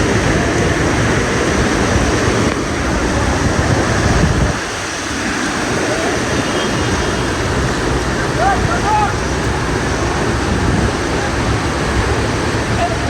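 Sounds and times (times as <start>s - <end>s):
heavy rain pouring: 0.0s - 13.0s
wind buffeting microphone: 0.0s - 13.0s.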